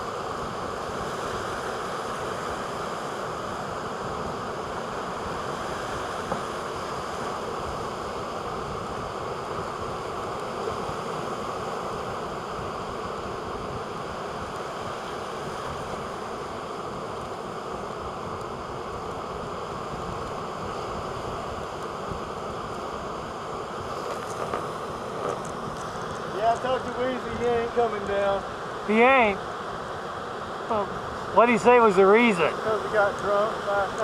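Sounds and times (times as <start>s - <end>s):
heavy surf rushing: 0.0s - 34.0s
wind: 0.0s - 34.0s.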